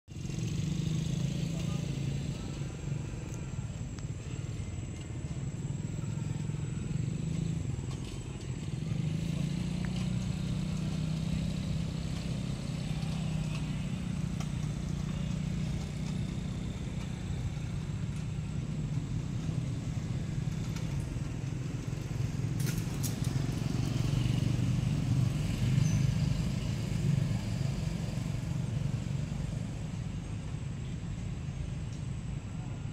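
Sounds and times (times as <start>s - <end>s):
engine humming: 0.1s - 32.9s.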